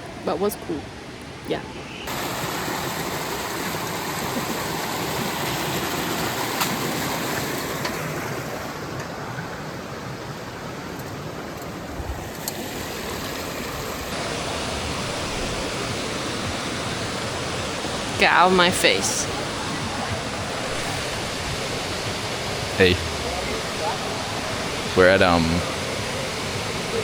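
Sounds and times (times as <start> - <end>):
water rushing over rocks: 2.1 - 27.0.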